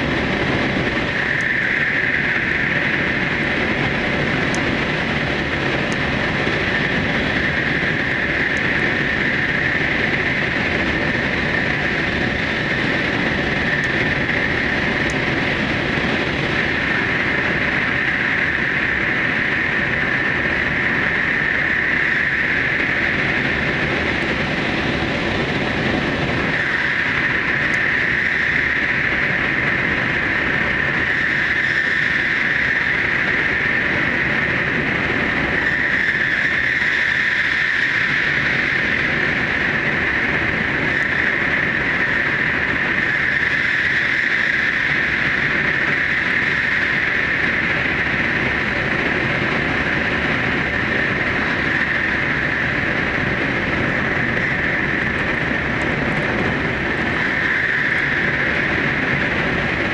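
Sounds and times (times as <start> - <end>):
train wheels rumbling in tunnel: 0.0 - 59.9.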